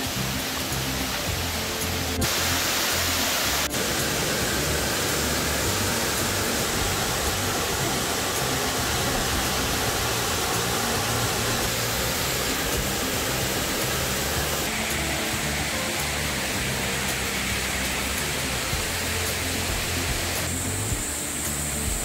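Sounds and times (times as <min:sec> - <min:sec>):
background music with bass line: 0:00.0 - 0:22.0
waterfall rushing: 0:00.0 - 0:22.0.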